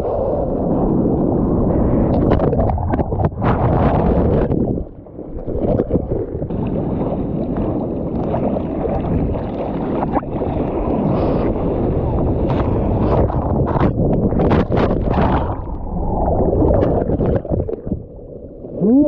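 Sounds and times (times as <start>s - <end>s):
wind buffeting the microphone: 0.0s - 18.2s
sea water sloshing and splashing: 0.0s - 19.0s.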